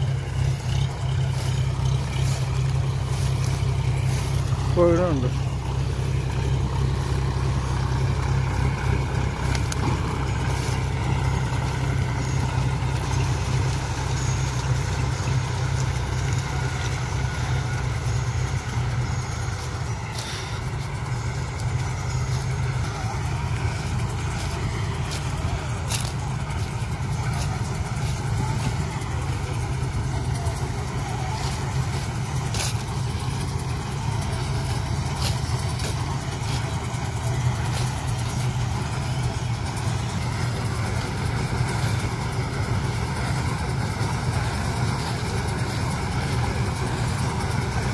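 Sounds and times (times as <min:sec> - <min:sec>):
harvester working: 0:00.0 - 0:47.9
tractor engine running: 0:00.0 - 0:47.9.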